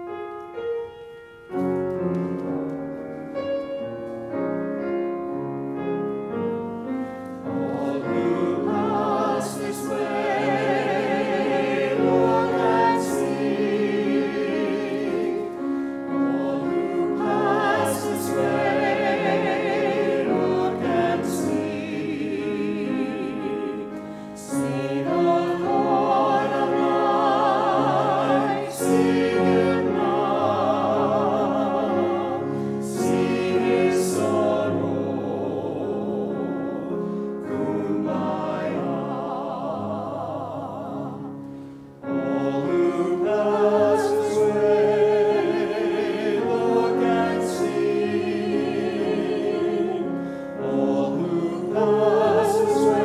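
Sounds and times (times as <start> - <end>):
piano playing: 0.0 - 53.0
choir singing with vibrato: 5.8 - 53.0.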